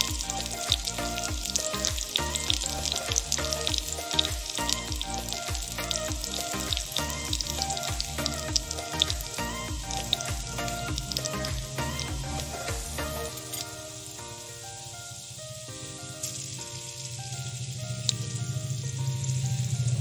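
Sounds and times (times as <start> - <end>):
background music with steady beat: 0.0 - 20.0.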